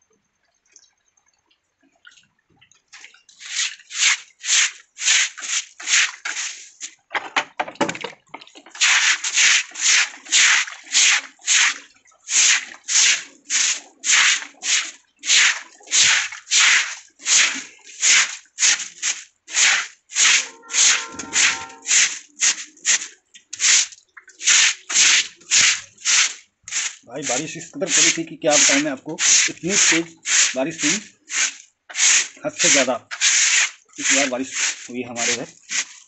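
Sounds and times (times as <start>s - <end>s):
straw broom sweeping water: 2.9s - 7.1s, 8.6s - 36.0s.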